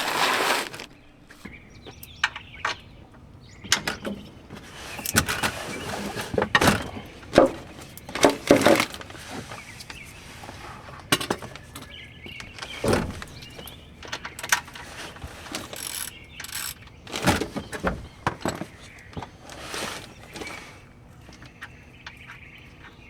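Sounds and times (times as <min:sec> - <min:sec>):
hand tools and metal parts clanking: 0:00.0 - 0:23.0.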